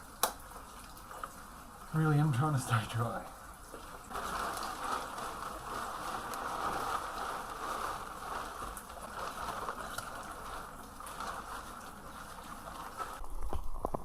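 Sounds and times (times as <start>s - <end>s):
heavy rain falling: 0.0s - 13.2s.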